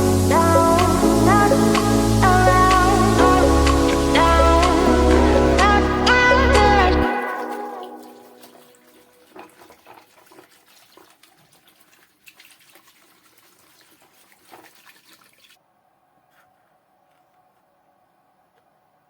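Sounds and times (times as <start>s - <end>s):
water splashing and trickling: 0.0s - 15.6s.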